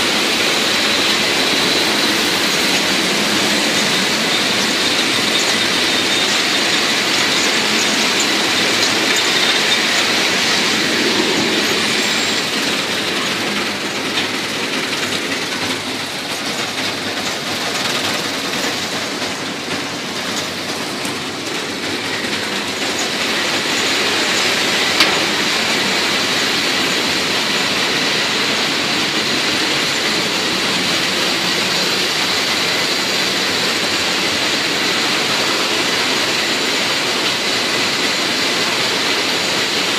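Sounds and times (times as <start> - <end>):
machine clatter and hum: 0.0 - 39.9.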